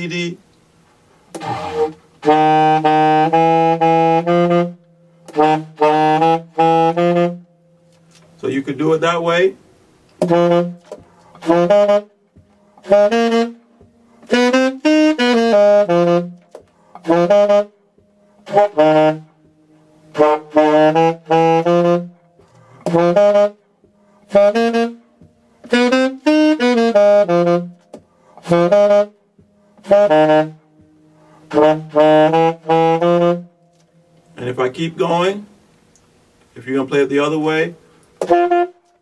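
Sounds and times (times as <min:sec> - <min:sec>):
alto saxophone low phrases: 0:00.0 - 0:00.4, 0:01.3 - 0:35.7, 0:36.6 - 0:39.0.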